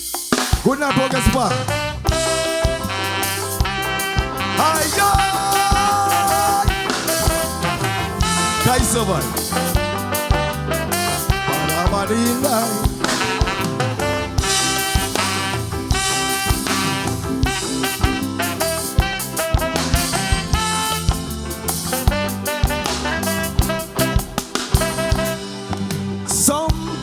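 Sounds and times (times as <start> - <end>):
calypso band playing: 0.0 - 27.0
steady drum beat: 0.0 - 27.0.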